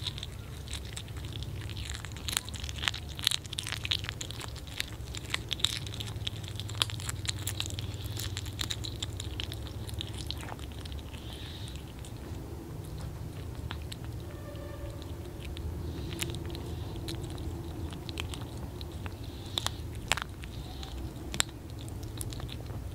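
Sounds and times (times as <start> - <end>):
kittens chewing fish: 0.0 - 22.9
steady low hum: 0.0 - 22.9.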